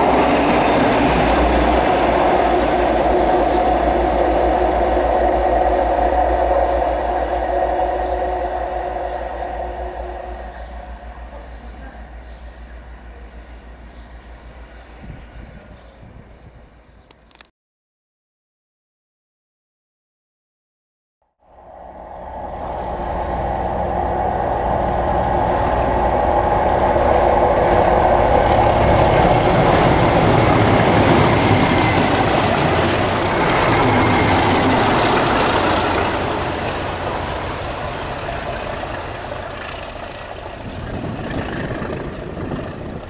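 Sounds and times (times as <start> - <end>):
train wheel noise: 0.0 - 15.8, 21.6 - 43.0
diesel locomotive engine passing: 0.0 - 17.1, 21.4 - 43.0.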